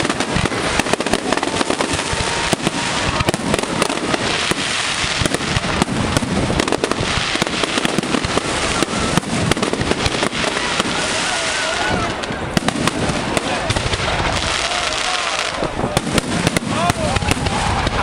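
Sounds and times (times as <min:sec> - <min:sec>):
fireworks bangs and crackling: 0:00.0 - 0:18.0
fireworks hiss: 0:00.0 - 0:18.0
faint firework whistles: 0:00.8 - 0:18.0.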